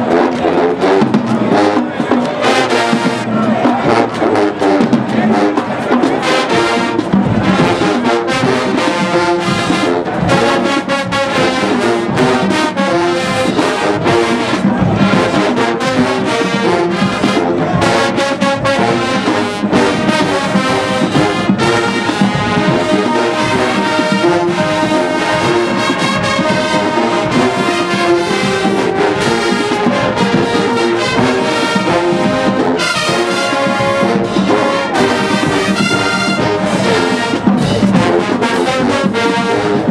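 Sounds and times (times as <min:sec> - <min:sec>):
marching band brass: 0:00.0 - 0:39.9
marching percussion drums: 0:00.0 - 0:39.9.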